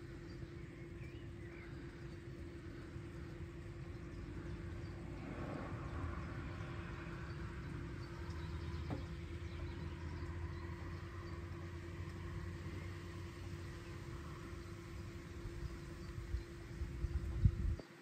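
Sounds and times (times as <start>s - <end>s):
mower humming: 0.0s - 17.8s.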